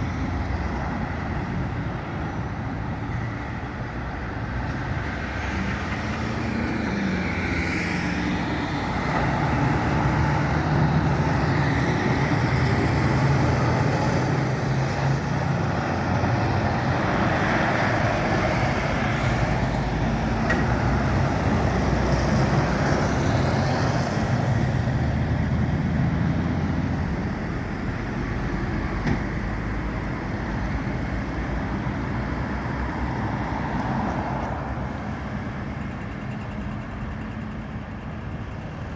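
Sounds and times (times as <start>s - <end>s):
trucks driving past: 0.0s - 38.9s.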